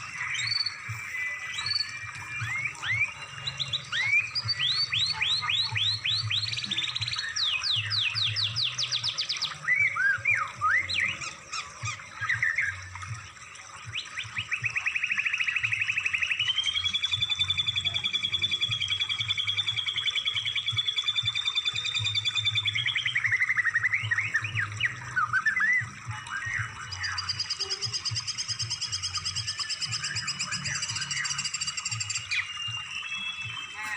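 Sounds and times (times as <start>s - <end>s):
songbird chirping and trilling: 0.0s - 33.9s.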